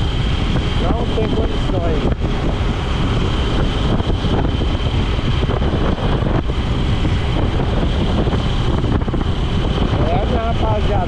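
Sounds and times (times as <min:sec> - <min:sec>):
motorcycle riding: 0:00.0 - 0:11.0
wind rushing over microphone: 0:00.0 - 0:11.0.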